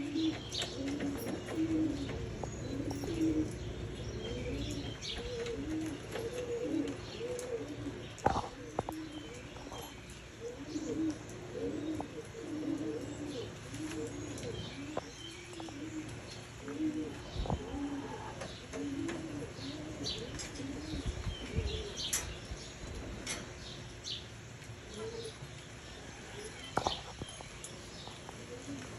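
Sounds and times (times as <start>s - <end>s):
pigeons cooing: 0.0s - 28.9s
small birds chirping: 0.0s - 28.9s.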